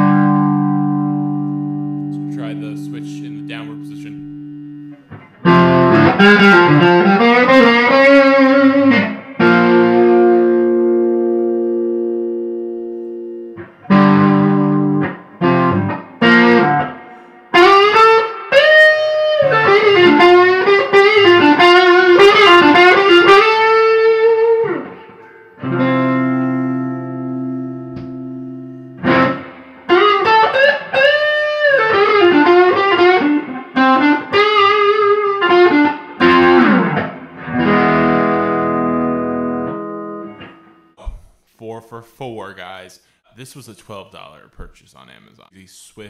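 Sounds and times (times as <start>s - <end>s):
overdriven electric guitar: 0.0s - 41.0s.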